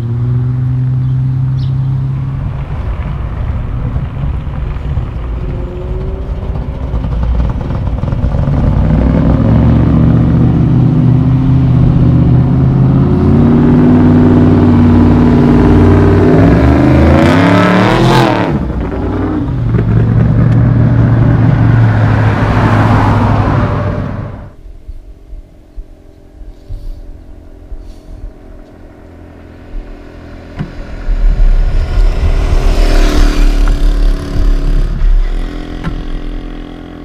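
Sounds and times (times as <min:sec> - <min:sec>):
classic car engine passing by: 0:00.0 - 0:24.6, 0:26.0 - 0:37.0
vehicle tyre and engine noise: 0:00.0 - 0:37.0.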